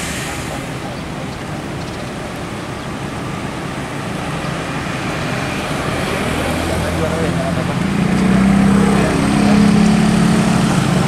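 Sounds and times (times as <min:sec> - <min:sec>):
diesel engine idling: 0:00.0 - 0:11.0
traffic passing: 0:00.0 - 0:11.0
tyres hissing: 0:00.0 - 0:11.0.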